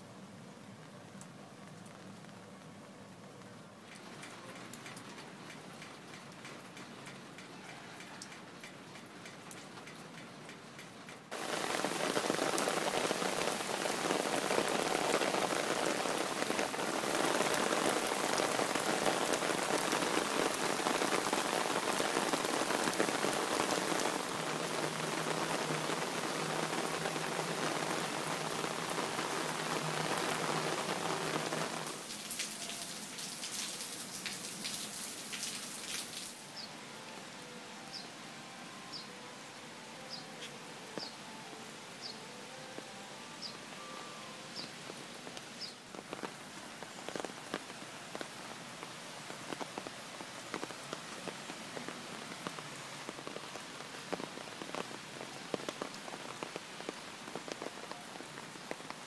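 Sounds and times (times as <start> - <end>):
rain on wet paving and plants: 0.0 - 59.0.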